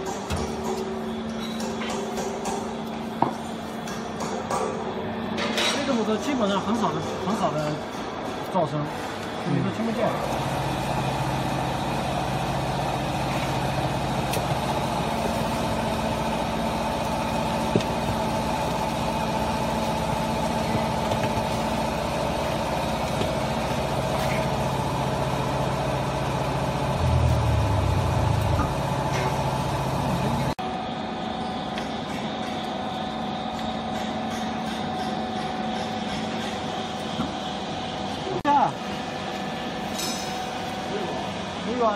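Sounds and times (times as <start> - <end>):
hydraulic motor and pump humming: 0.0 - 41.9.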